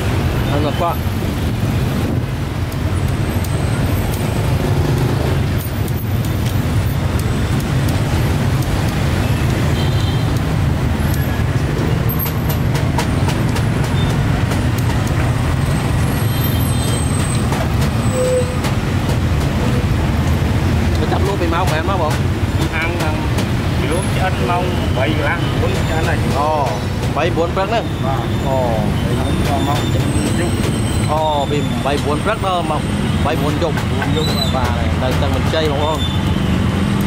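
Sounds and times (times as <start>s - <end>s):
road noise: 0.0s - 37.0s
street traffic engine rumble: 0.0s - 37.0s.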